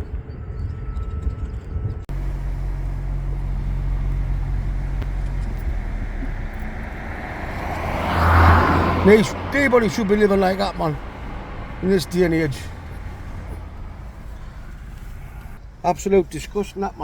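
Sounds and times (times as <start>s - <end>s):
car engine and road noise: 2.0s - 17.0s.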